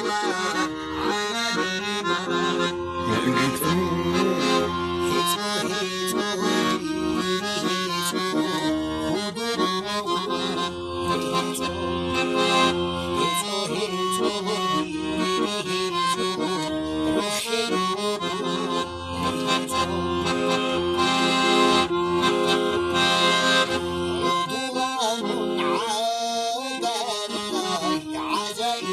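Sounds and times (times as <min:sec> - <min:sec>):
accordion folk tune: 0:00.0 - 0:28.9.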